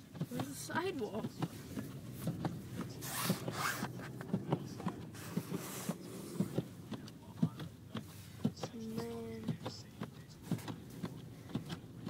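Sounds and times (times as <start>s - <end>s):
car rumbling through snow: 0.0s - 12.0s.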